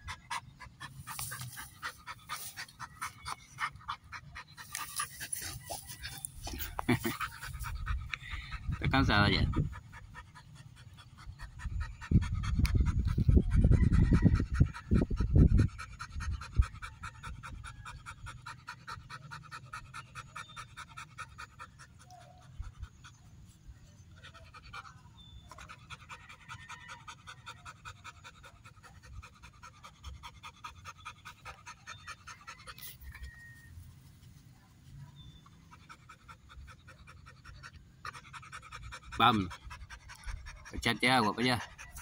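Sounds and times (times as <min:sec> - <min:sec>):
dog panting rapidly: 0:00.0 - 0:23.4, 0:24.1 - 0:33.6, 0:35.2 - 0:42.0.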